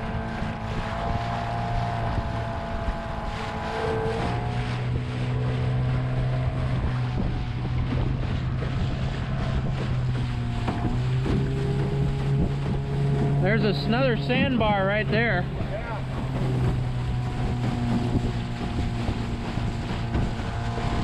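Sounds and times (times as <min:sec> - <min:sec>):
boat motor running: 0:00.0 - 0:21.0
water splashing off hull: 0:00.0 - 0:21.0
wind on microphone: 0:00.0 - 0:21.0.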